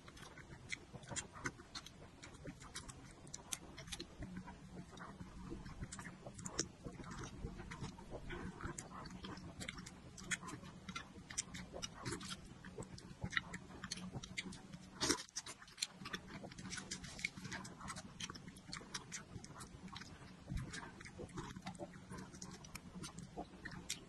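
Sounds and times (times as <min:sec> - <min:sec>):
wet chewing and smacking: 0:00.0 - 0:24.0.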